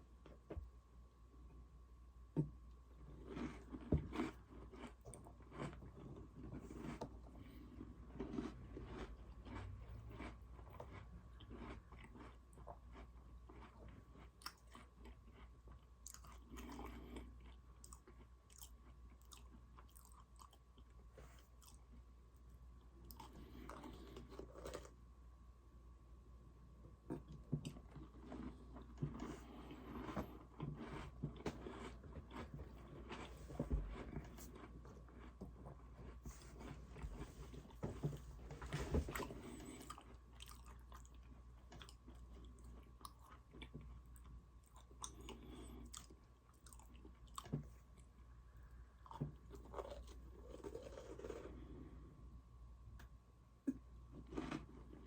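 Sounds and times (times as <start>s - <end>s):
chewing crunchy cookies: 2.6s - 25.0s, 26.9s - 52.1s, 53.0s - 55.0s.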